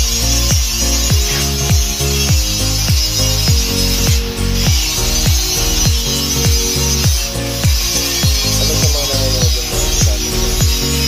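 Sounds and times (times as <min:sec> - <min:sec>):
deep bass drums: 0:00.0 - 0:11.0
electronic music: 0:00.0 - 0:11.0.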